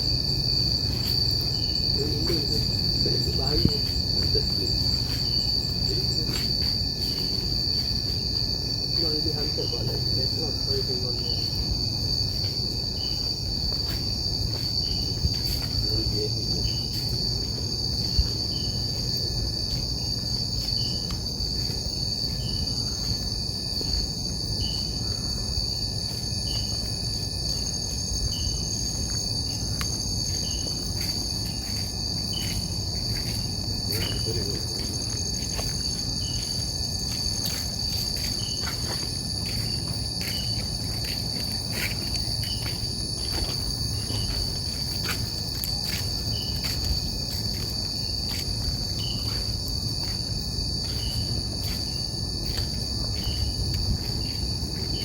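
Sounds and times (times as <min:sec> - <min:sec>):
insects trilling: 0:00.0 - 0:55.0
short repeating insect chirp: 0:00.0 - 0:55.0.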